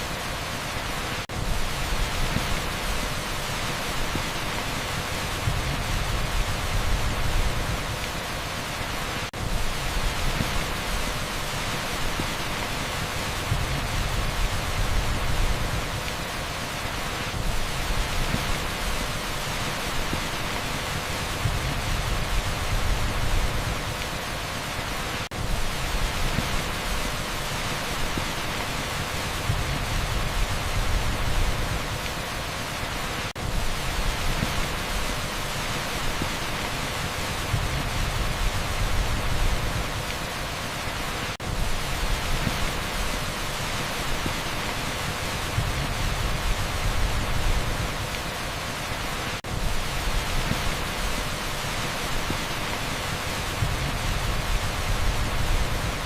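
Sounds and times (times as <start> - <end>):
heavy rain on asphalt: 0.0 - 56.0.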